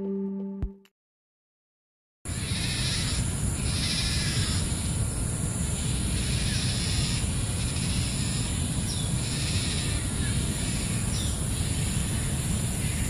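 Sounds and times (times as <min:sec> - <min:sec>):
high hissing buzz: 0:02.3 - 0:13.0.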